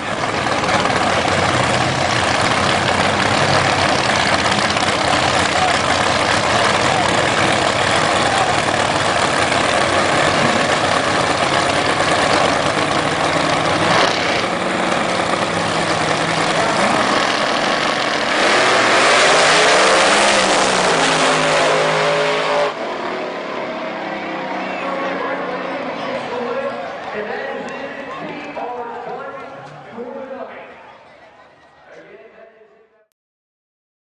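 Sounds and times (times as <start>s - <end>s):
drag racing engines accelerating: 0.0s - 30.8s.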